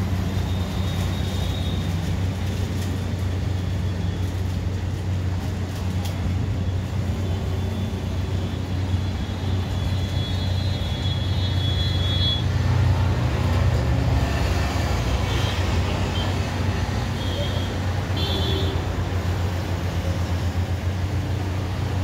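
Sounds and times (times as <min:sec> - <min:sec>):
traffic engine rumble: 0:00.0 - 0:22.0.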